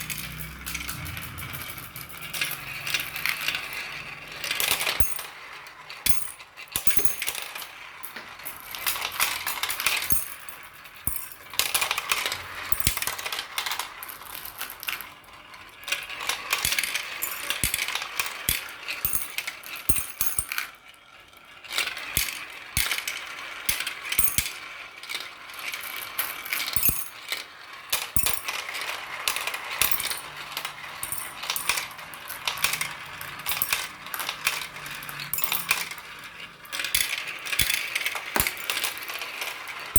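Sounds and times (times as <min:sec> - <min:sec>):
marbles clattering down a track: 0:00.0 - 0:39.9.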